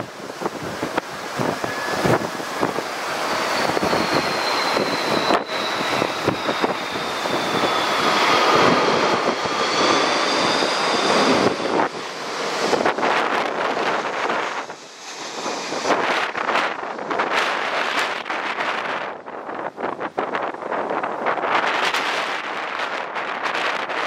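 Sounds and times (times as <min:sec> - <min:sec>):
jet engines whining: 0:00.0 - 0:24.0
wind buffeting microphone: 0:00.0 - 0:24.0.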